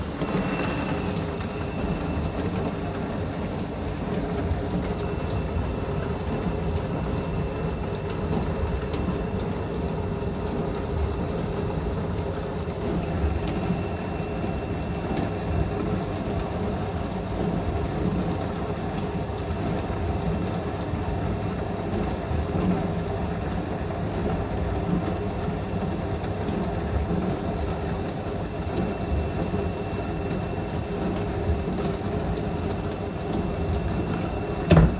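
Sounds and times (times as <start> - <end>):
dishwasher churning water: 0.0 - 34.9
low pump hum: 0.0 - 34.9.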